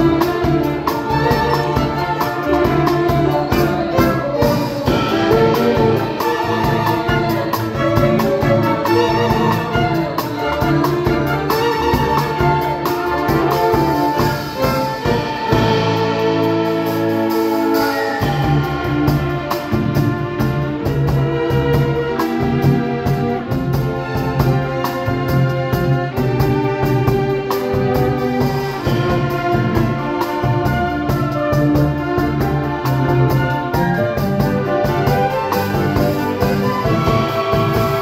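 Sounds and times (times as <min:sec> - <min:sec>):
drum kit beat with cymbals: 0:00.0 - 0:38.0
violin melody: 0:00.0 - 0:38.0.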